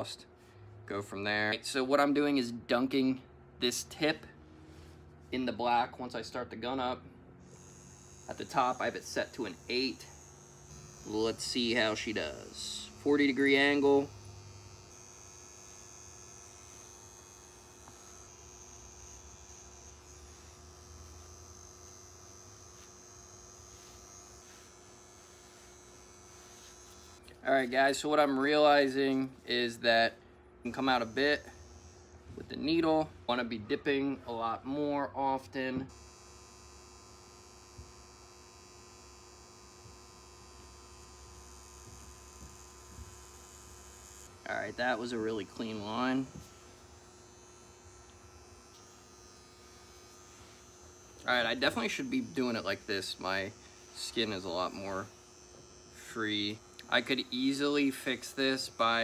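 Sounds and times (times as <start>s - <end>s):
tattoo machine humming: 6.8s - 30.1s, 30.7s - 33.5s, 35.9s - 59.0s.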